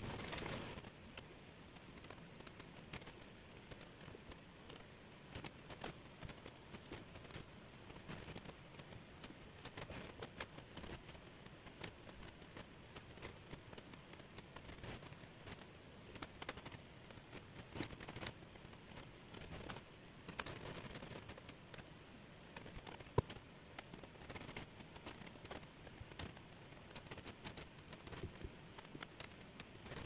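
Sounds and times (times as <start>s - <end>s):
wooden puzzle pieces clicking: 0.1s - 30.0s.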